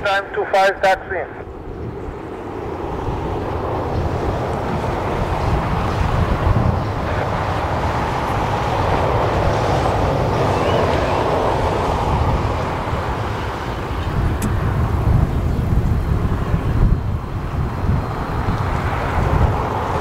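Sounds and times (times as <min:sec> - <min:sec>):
jet engines rushing: 0:00.0 - 0:20.0
wind rumbling on microphone: 0:01.4 - 0:20.0.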